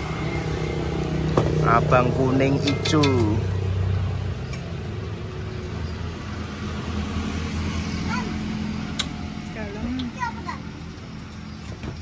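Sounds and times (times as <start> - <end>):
traffic engine hum: 0.0 - 12.0.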